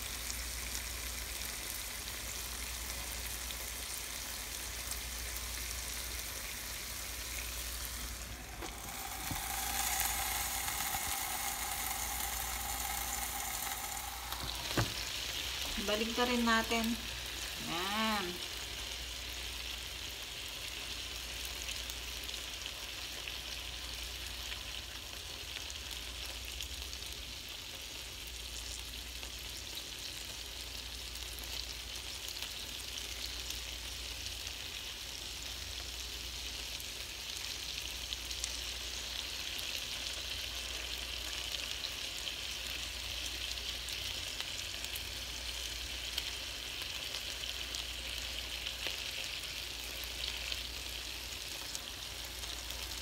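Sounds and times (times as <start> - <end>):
meat sizzling on a grill: 0.0 - 53.0.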